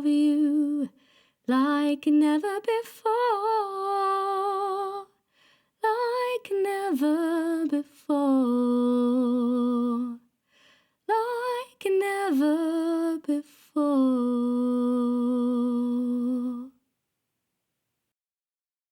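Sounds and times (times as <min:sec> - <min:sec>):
woman singing wordlessly: 0:00.0 - 0:05.2, 0:05.8 - 0:10.3, 0:11.1 - 0:16.8.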